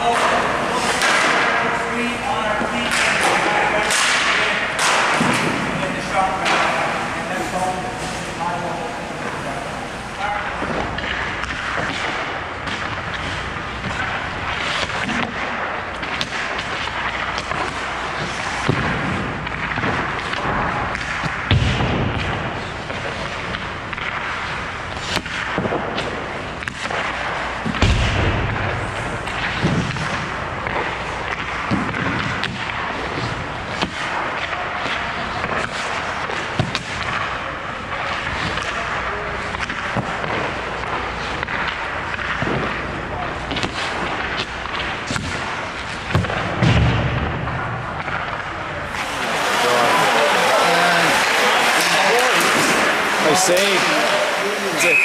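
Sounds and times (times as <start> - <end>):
hockey sticks hitting pucks: 0.0 - 55.0
pucks striking pads and boards: 0.0 - 55.0.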